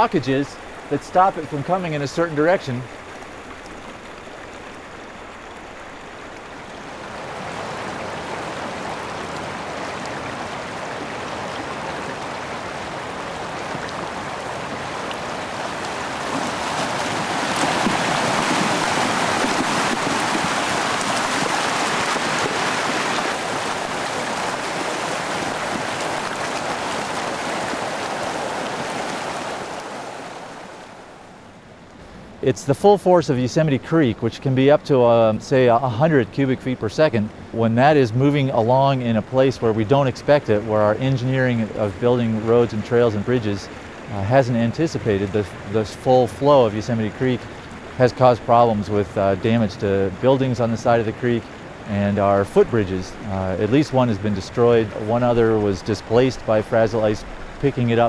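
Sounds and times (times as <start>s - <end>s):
icy creek rushing: 0.0s - 58.0s.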